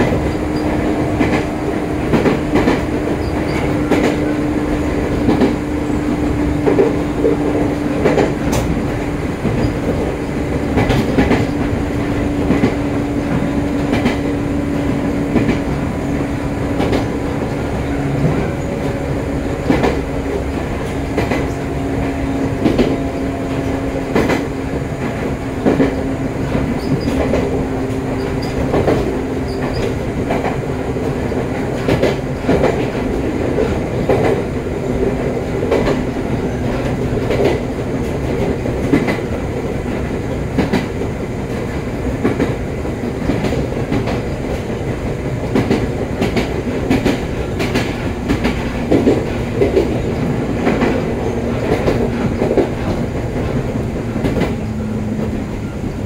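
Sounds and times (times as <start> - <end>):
electric train hum: 0.0 - 56.0.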